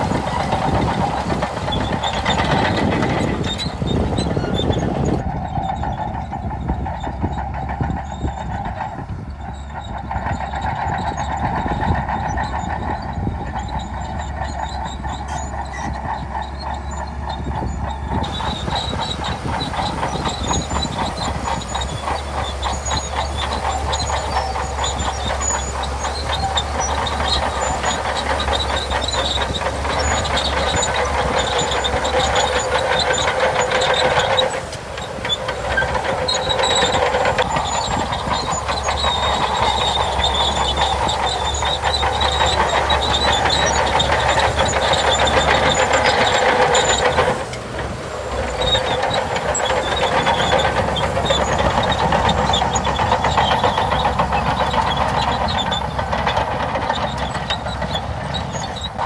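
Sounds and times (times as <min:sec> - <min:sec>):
diesel engine running: 0:00.0 - 0:59.0
metallic track clatter: 0:00.0 - 0:59.0.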